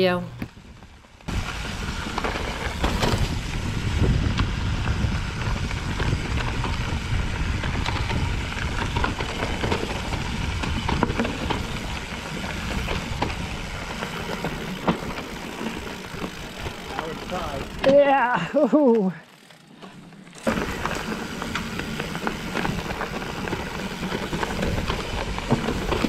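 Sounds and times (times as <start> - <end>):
bike chain and frame rattling: 0.0 - 26.0
bike tyres rumbling over rock: 0.5 - 18.6, 19.3 - 26.0.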